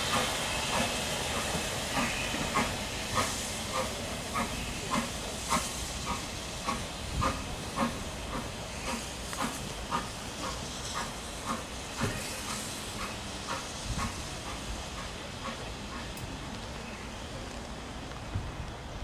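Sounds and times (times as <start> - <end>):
steam hissing: 0.0 - 17.4
steam locomotive exhaust beats: 0.0 - 19.0.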